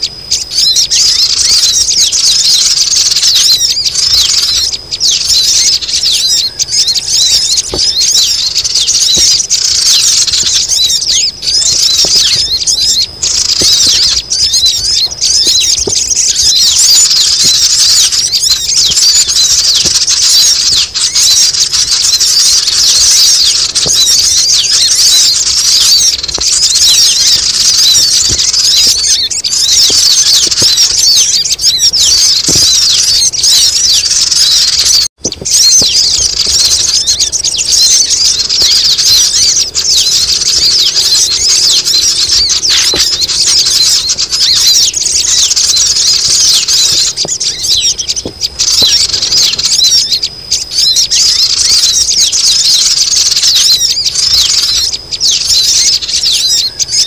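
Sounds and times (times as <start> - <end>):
chorus of bird chirps: 0.0 - 57.0.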